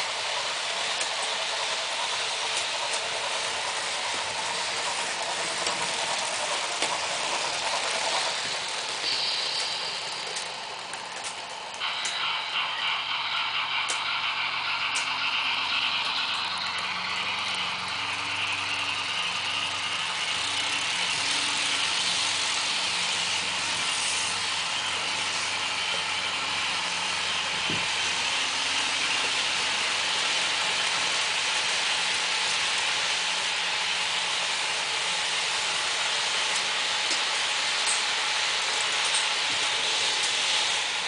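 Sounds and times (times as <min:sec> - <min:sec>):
model train running on track: 0:00.0 - 0:41.0.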